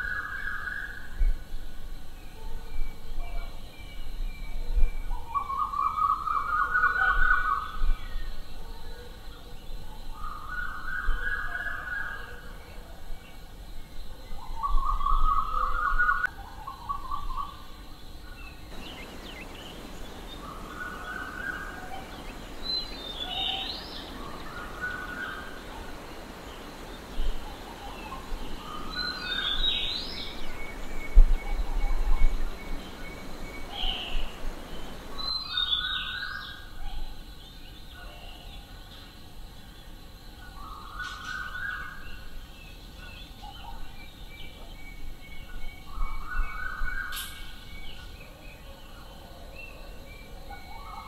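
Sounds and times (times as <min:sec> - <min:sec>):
outdoor background hiss: 0:00.0 - 0:51.0.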